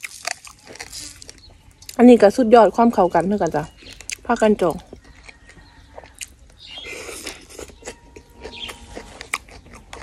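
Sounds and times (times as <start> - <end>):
wet chewing and crunching: 0.0 - 10.0.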